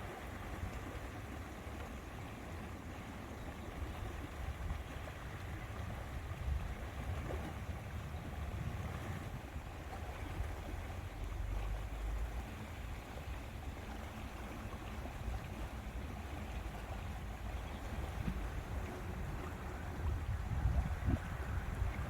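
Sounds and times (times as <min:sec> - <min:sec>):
water lapping against shore: 0:00.0 - 0:22.0
wind: 0:00.0 - 0:22.0.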